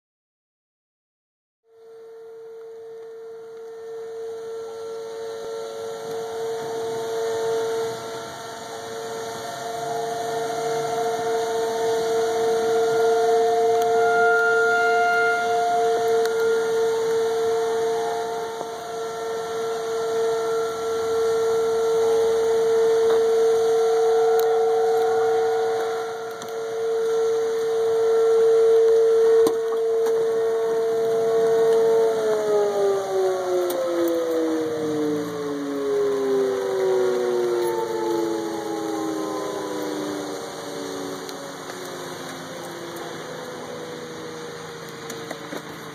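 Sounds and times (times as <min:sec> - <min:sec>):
warning siren wailing: 0:01.7 - 0:45.9.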